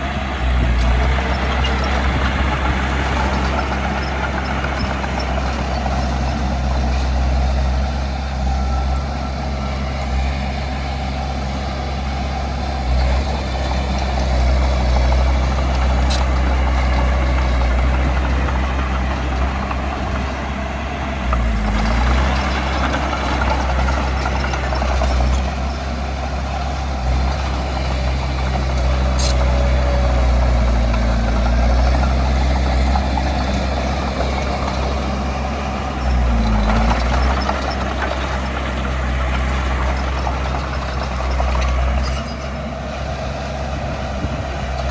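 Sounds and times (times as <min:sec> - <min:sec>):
heavy diesel machinery engine drone: 0:00.0 - 0:44.9.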